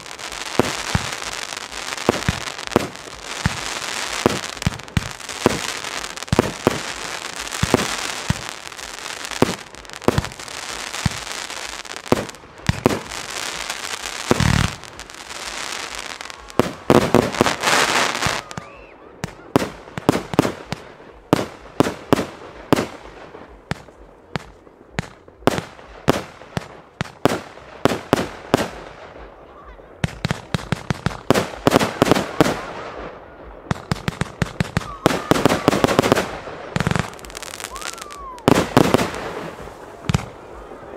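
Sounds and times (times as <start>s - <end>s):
fireworks bangs: 0.0s - 40.9s
fireworks crackling: 0.0s - 40.9s.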